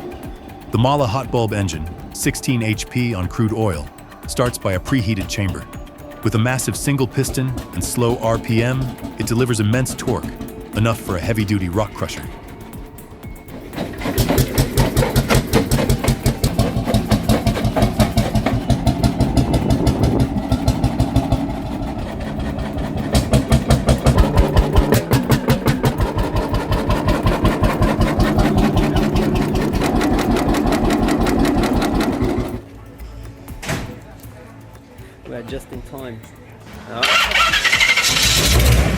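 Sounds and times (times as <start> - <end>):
single-cylinder engine running: 0.0 - 32.6, 37.0 - 38.9.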